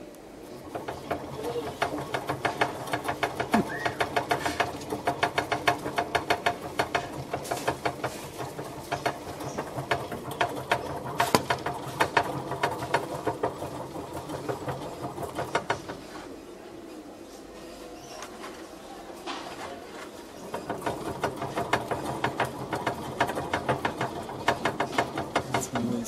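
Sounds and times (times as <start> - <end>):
wire-mesh wheel rattling clicks: 0.6 - 16.0, 20.4 - 26.0.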